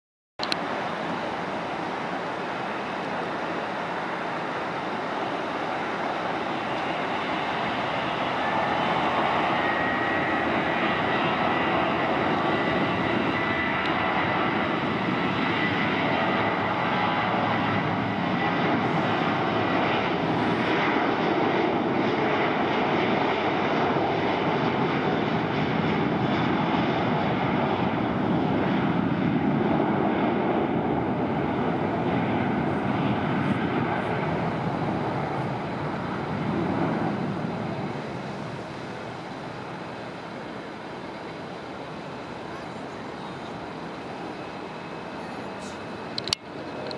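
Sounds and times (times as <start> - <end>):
jet engine rumble: 0.4 - 46.9.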